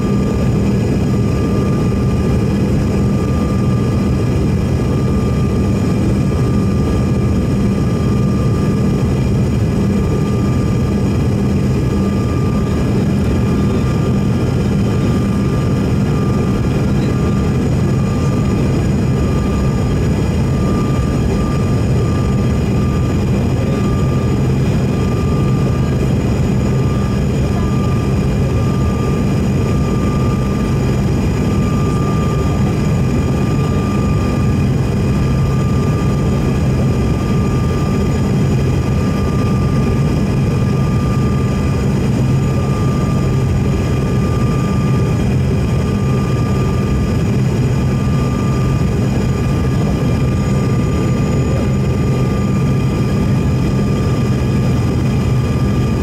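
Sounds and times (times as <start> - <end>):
jet cabin airflow and engine rush: 0.0 - 56.0
thin steady whine: 0.0 - 56.0.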